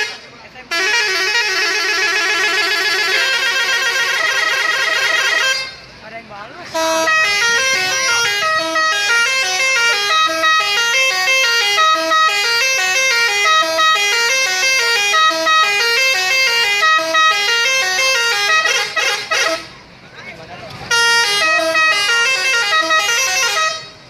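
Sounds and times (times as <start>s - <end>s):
bus horn playing melody: 0.0s - 6.0s, 6.7s - 19.8s, 20.9s - 24.0s.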